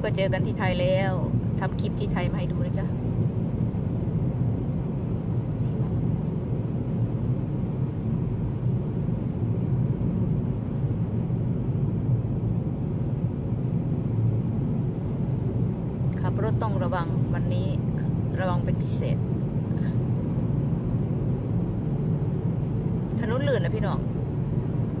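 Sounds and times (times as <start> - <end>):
car cabin road noise: 0.0 - 25.0.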